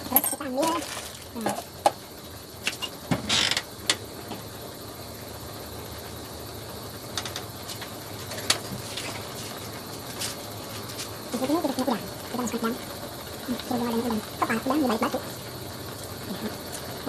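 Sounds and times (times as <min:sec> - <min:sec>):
gas stove burner rushing: 0:01.5 - 0:17.0.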